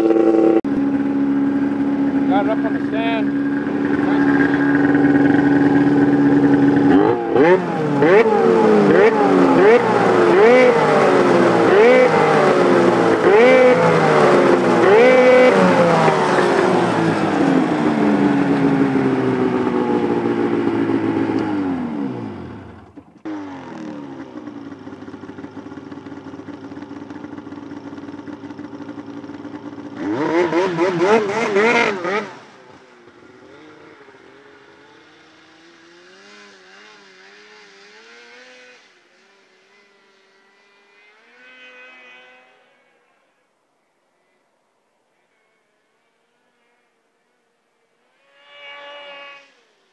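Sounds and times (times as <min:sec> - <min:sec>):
snowmobile engine revving: 0:00.0 - 0:43.5, 0:45.1 - 0:49.9.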